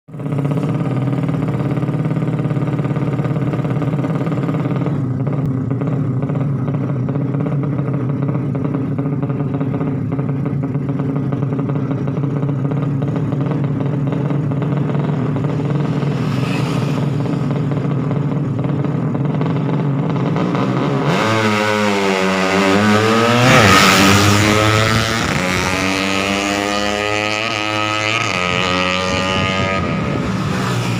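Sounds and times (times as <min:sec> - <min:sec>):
motorcycle engine idling and revving: 0:00.1 - 0:30.9.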